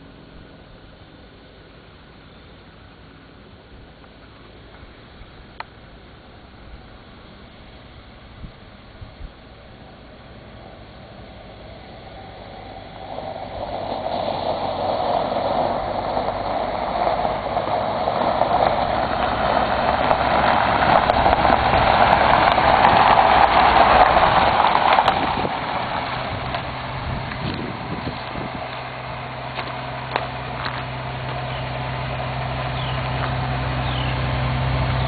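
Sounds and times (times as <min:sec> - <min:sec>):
vehicle running: 0:00.0 - 0:35.0.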